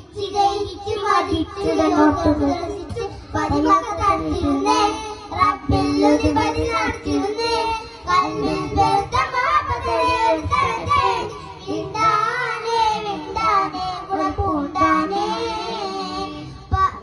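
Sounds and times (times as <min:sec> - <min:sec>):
boys singing together: 0:00.0 - 0:17.0.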